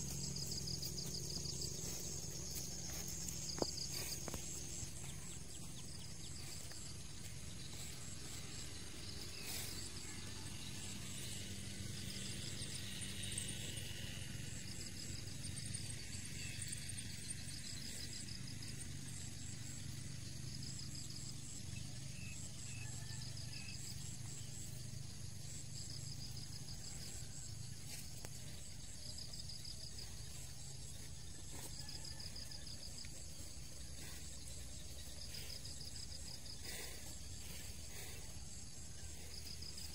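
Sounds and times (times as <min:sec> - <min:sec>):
insects calling in rapid pulses: 0:00.0 - 0:39.9
low background hum: 0:00.0 - 0:39.9.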